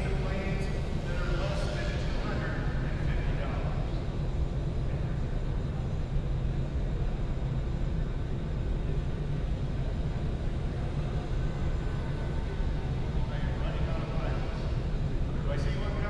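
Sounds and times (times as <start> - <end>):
low rumble in a hall: 0.0 - 16.0.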